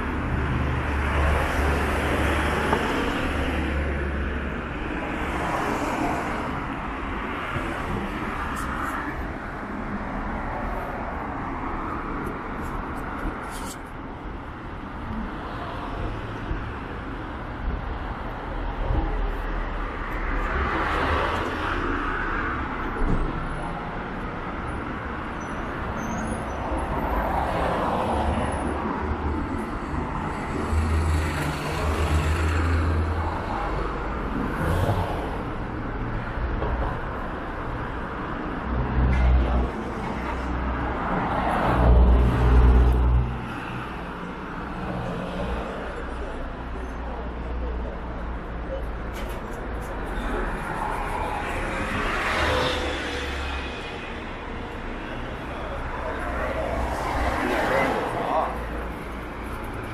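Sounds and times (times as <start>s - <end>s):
low traffic rumble: 0.0s - 59.9s
vehicles passing: 0.0s - 59.9s.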